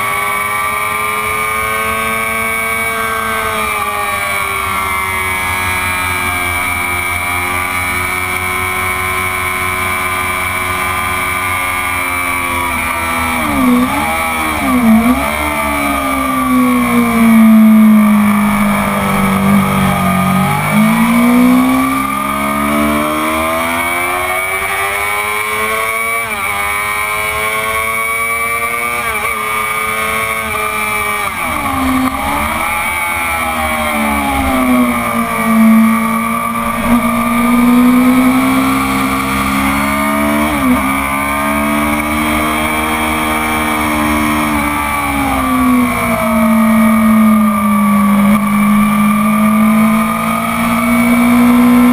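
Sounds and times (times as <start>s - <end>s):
motorcycle engine at racing speed: 0.0s - 51.9s.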